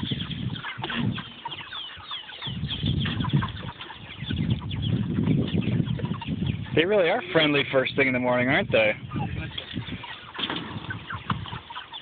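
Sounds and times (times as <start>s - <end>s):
chickens cheeping and clucking: 0.0s - 12.0s.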